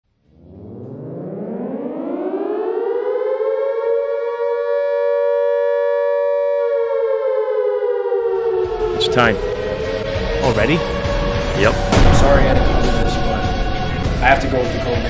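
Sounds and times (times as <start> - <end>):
civil defense siren wailing: 0.3 - 15.0.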